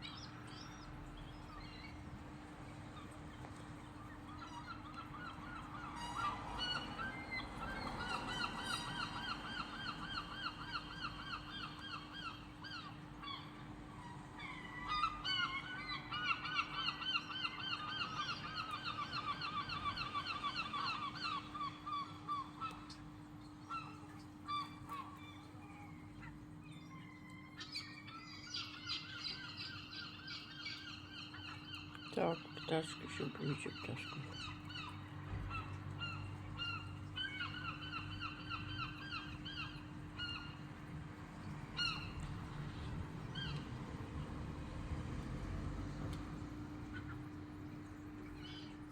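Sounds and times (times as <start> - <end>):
bird calling: 3.0 - 40.9, 41.7 - 43.7, 46.7 - 48.9.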